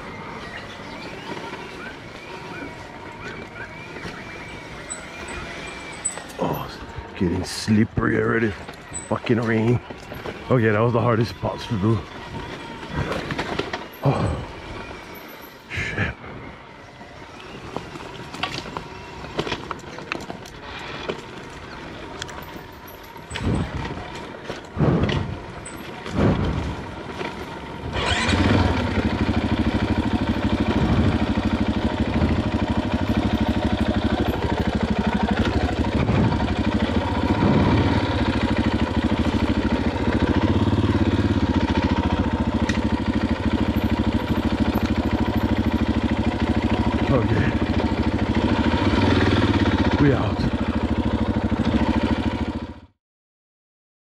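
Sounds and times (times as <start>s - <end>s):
motorcycle engine starting and idling: 0.0s - 53.0s.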